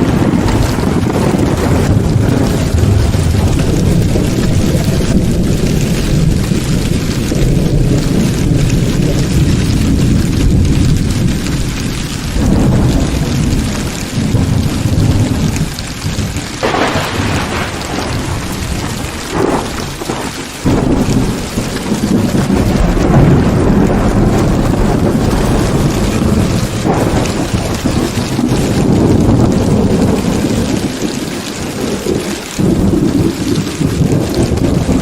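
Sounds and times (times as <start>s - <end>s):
heavy rain falling: 0.0s - 35.0s
sharp thunder claps: 0.0s - 35.0s
thunder rumbling: 0.0s - 35.0s.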